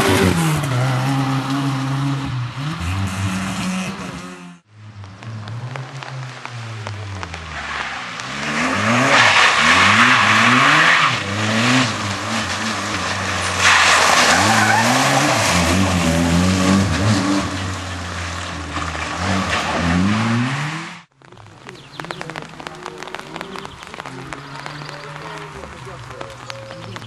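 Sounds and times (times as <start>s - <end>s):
rally car engine revving: 0.0s - 21.1s, 22.0s - 27.0s
tyre and surface noise: 0.0s - 27.0s.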